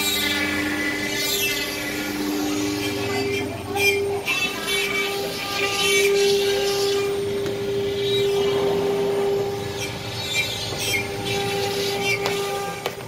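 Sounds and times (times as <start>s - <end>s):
noisy mechanical background: 0.0s - 13.0s
router spindle whine: 0.0s - 13.0s.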